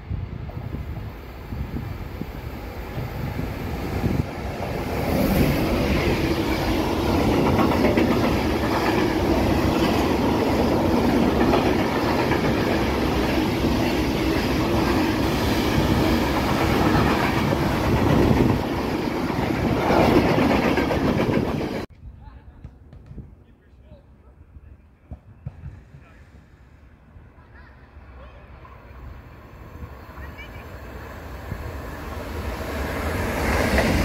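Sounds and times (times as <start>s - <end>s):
freight train wheels rumbling: 0.0s - 21.9s, 28.6s - 34.0s.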